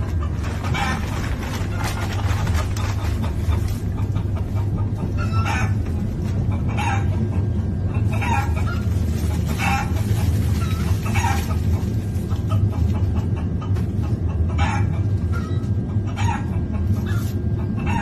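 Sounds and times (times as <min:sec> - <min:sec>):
recorded chicken clucking: 0:00.0 - 0:18.0
train low rumble: 0:00.0 - 0:18.0.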